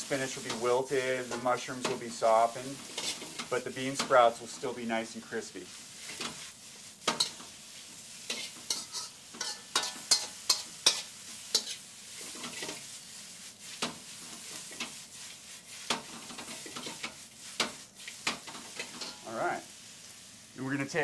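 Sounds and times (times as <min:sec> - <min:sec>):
spoon scraping and knocking pan: 0:00.0 - 0:04.8, 0:05.9 - 0:19.3
vegetables sizzling in oil: 0:00.0 - 0:21.0.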